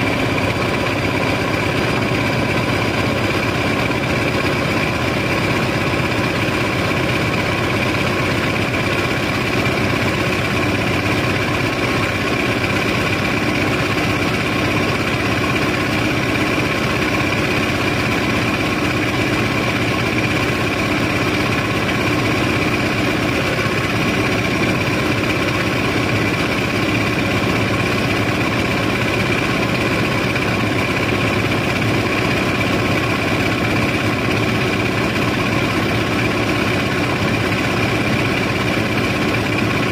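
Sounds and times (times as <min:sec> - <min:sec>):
constant high whine: 0:00.0 - 0:39.9
machinery engine drone: 0:00.0 - 0:39.9.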